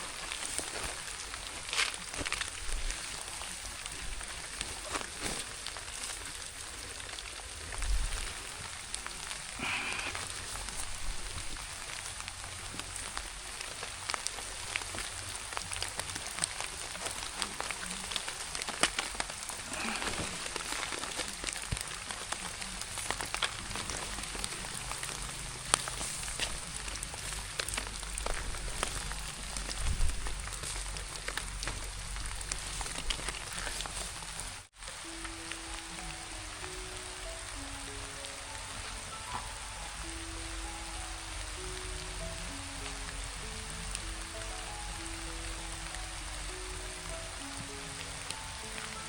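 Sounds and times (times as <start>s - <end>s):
rain falling: 0.0s - 49.0s
raindrops ticking close by: 0.0s - 49.0s.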